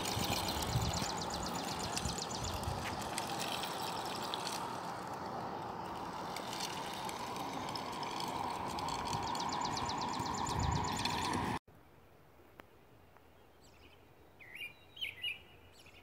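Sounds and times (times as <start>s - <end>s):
street ambience hiss: 0.0s - 16.0s.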